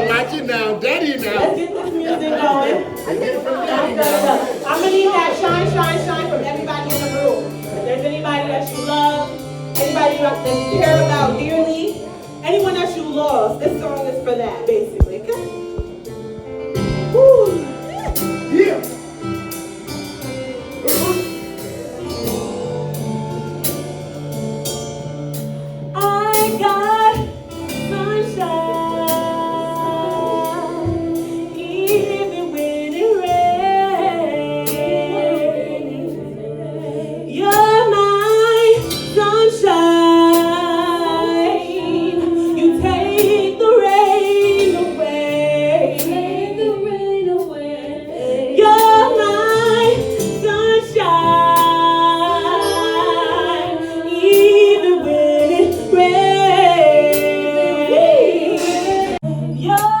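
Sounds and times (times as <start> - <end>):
backing music track: 0.0 - 60.0
woman singing: 1.2 - 15.9, 26.0 - 60.0.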